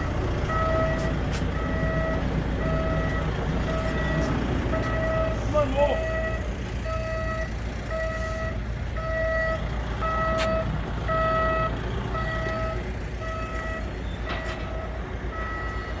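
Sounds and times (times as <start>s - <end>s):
engine rumble: 0.0s - 16.0s
reversing alarm beeping: 0.4s - 16.0s.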